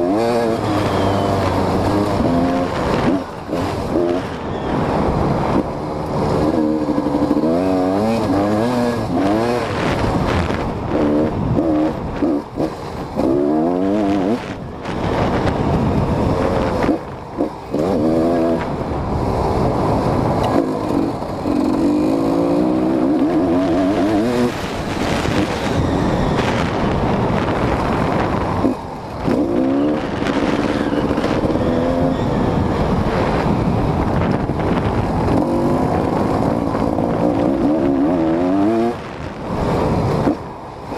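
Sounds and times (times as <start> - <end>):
dirt bike engine revving: 0.0 - 40.5.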